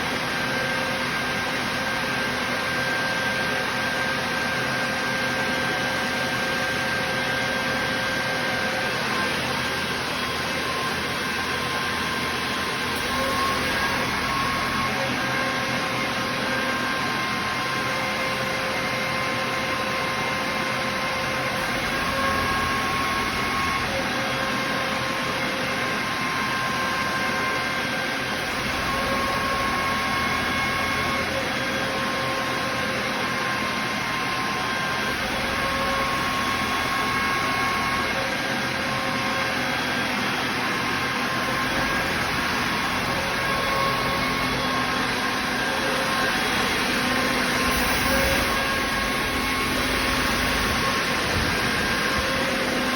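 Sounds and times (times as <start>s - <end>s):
air compressor running: 0.0s - 52.9s.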